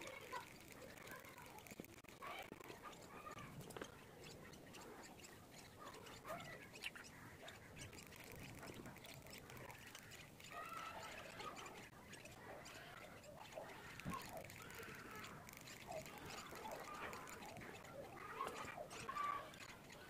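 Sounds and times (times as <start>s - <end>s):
parrot chicks begging calls: 0.0s - 20.0s
small ticks: 0.0s - 20.0s.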